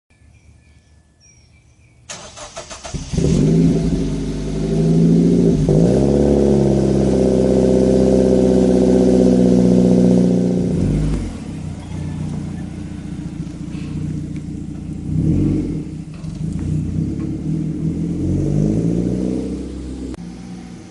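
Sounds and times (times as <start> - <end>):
car engine idling: 2.1 - 20.9.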